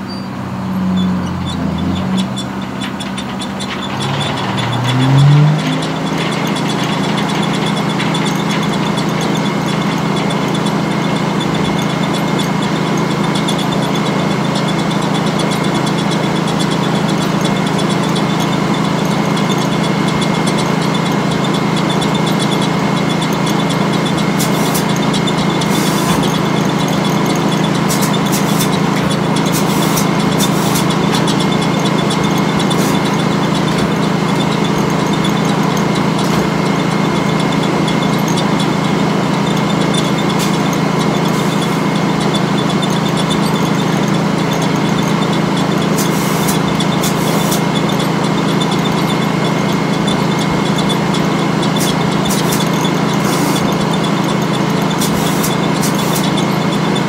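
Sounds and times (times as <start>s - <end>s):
sawmill mechanical drone: 0.0s - 57.0s.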